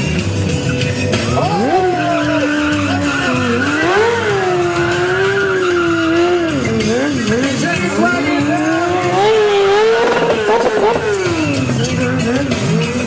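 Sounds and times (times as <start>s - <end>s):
motorcycle engine revving: 0.0s - 13.0s
tyres skidding: 0.0s - 13.0s.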